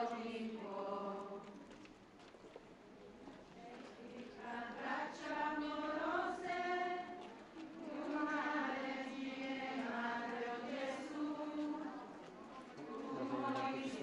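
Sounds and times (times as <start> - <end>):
crowd singing a chant: 0.0 - 1.5, 4.0 - 14.0.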